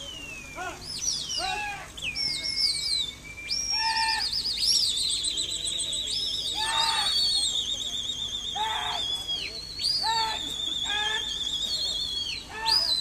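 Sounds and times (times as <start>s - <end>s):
people whistling: 0.0s - 13.0s
warbling trilled whistle: 0.0s - 13.0s.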